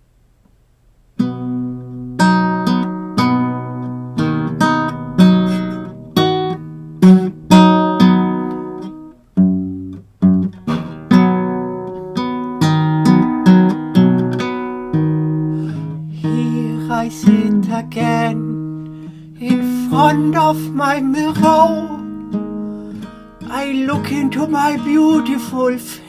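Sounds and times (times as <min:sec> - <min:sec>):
acoustic guitar strumming: 0:01.2 - 0:26.0.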